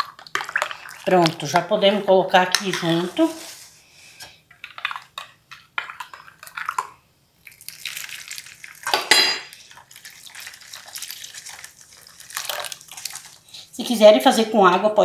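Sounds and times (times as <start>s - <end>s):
milk pouring and splashing: 0.0s - 3.4s, 4.6s - 13.7s.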